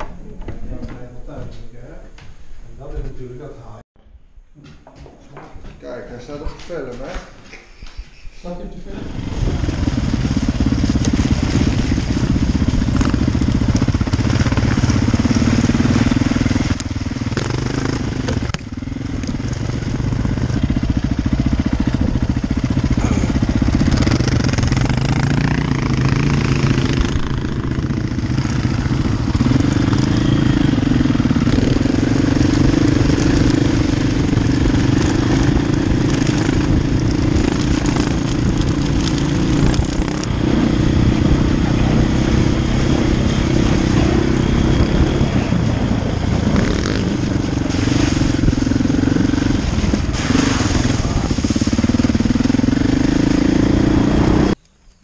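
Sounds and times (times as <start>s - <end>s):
motorcycle engine running under load: 9.1s - 54.6s.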